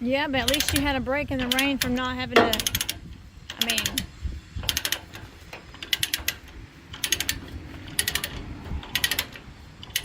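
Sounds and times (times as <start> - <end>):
ratchet clicks: 0.4 - 10.0.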